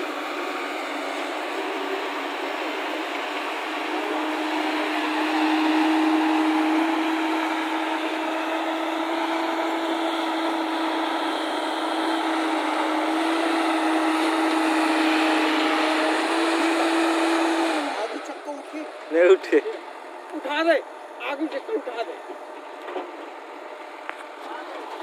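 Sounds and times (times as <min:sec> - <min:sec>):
excavator diesel engine running: 0:00.0 - 0:25.0
hydraulic whine: 0:00.0 - 0:25.0.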